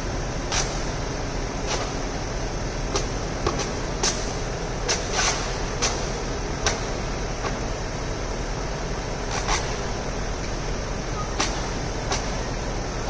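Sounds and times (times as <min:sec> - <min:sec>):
boom lift engine hum: 0:00.0 - 0:13.0.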